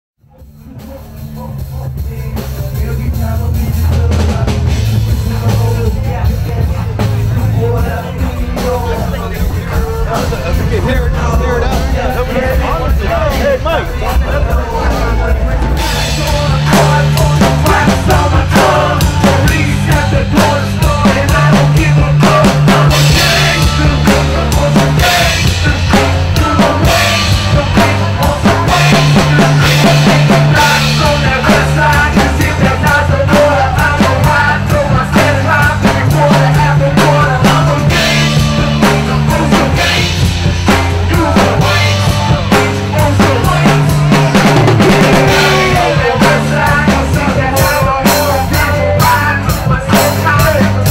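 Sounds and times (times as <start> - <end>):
drum kit played hard: 0.2 - 50.9
repeating bass line: 0.3 - 50.9.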